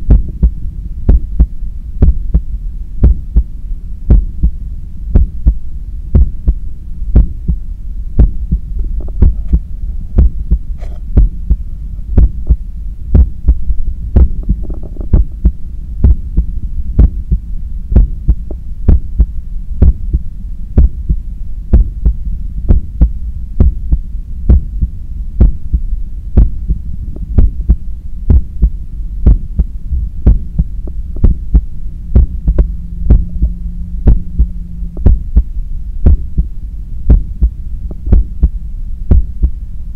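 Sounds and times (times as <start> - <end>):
heart beating: 0.0 - 3.5, 4.1 - 6.6, 7.2 - 7.6, 8.2 - 25.8, 26.4 - 36.5, 37.1 - 39.6
continuous low hum: 0.0 - 39.9.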